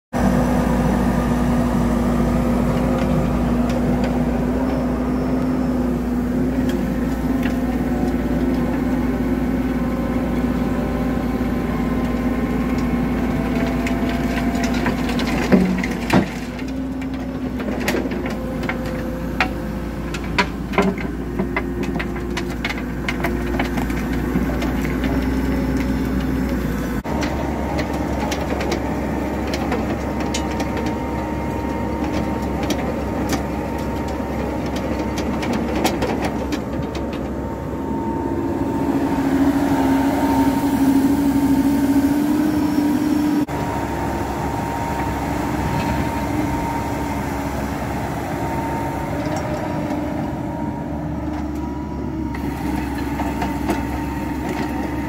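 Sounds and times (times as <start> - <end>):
excavator diesel engine humming: 0.1 - 55.0.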